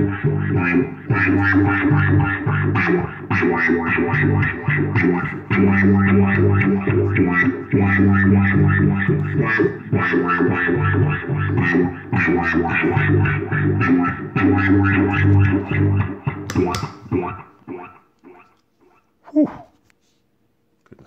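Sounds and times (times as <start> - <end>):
effects-processed bass loop: 0.0 - 18.4.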